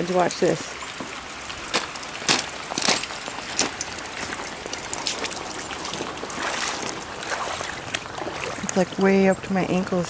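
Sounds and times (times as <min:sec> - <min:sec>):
sharp water splash: 0:00.0 - 0:09.0
water washing: 0:00.0 - 0:10.0
footsteps wading through water: 0:00.2 - 0:09.5.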